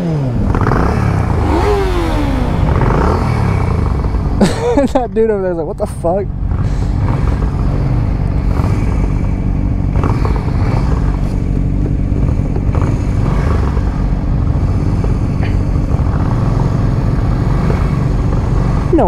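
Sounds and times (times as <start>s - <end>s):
motorcycle engines idling: 0.0s - 19.0s.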